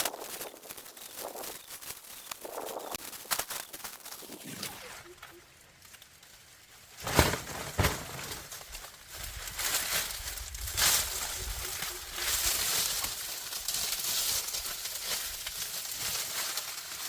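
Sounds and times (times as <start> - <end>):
rustling and crackling: 0.0 - 17.0.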